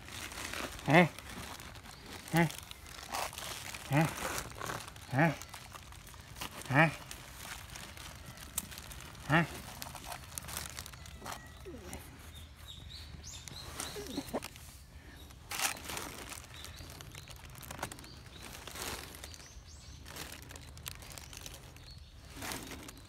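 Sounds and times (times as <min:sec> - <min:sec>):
rustle: 0:00.0 - 0:23.0
small birds chirping: 0:00.0 - 0:23.0.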